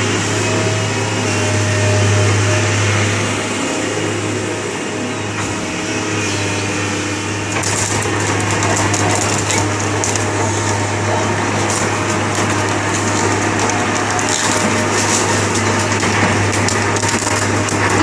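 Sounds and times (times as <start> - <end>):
excavator diesel engine humming: 0.0 - 18.0.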